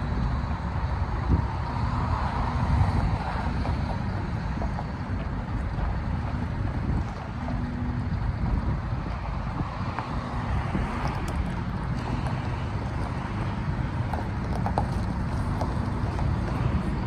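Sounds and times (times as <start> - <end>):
truck engine running: 0.0 - 17.0
wind buffeting microphone: 0.0 - 17.0.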